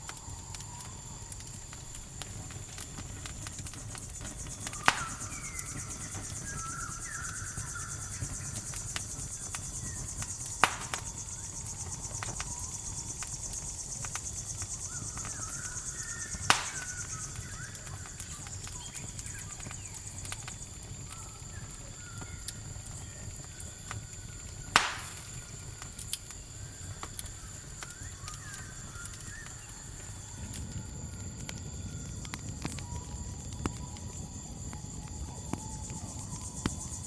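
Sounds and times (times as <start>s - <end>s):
loud sharp fire pops: 0.0s - 30.8s
campfire crackling: 0.0s - 37.0s
crickets chirring: 0.0s - 37.0s.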